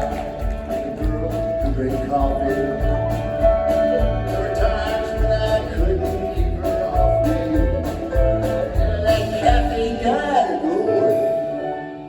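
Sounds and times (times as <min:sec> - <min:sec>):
bass line: 0:00.0 - 0:10.4
drums: 0:00.0 - 0:10.4
person singing: 0:00.0 - 0:12.0.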